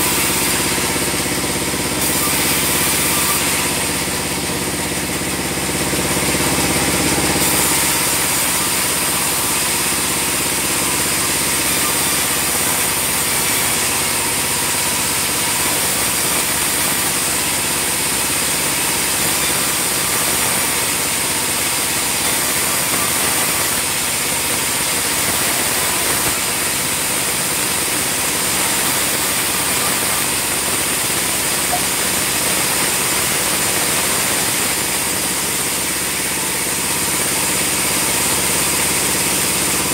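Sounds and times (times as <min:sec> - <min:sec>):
bandsaw running: 0:00.0 - 0:39.9.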